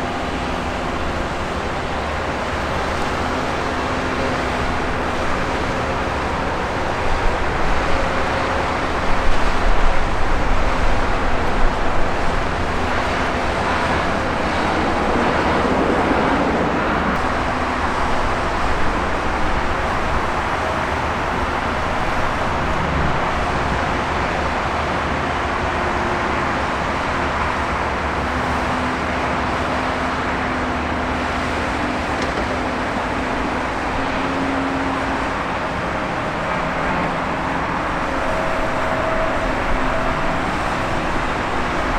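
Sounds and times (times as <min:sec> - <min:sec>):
jet engine noise: 0:00.0 - 0:41.9
road traffic hum: 0:00.0 - 0:41.9.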